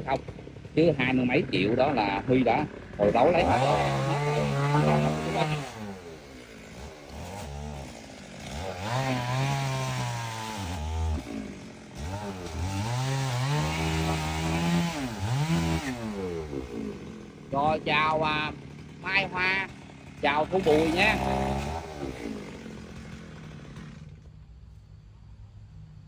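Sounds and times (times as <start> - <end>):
chainsaw engine revving: 0.0 - 24.5.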